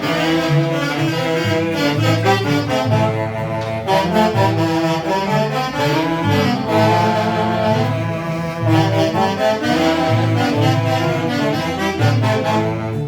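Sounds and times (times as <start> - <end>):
steady bass line: 0.0 - 13.0
wind instruments melody: 0.0 - 13.0.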